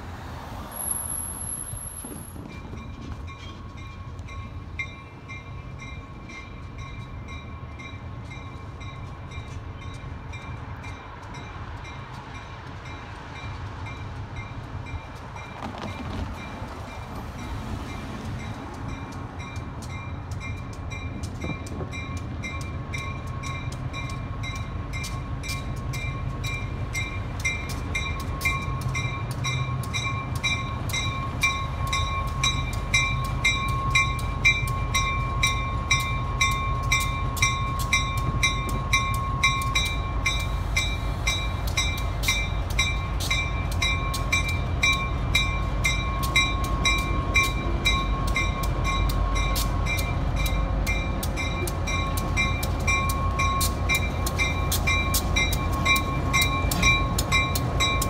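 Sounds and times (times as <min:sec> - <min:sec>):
diesel locomotive rumble: 0:00.0 - 0:58.0
railroad crossing bell ringing: 0:00.7 - 0:58.0.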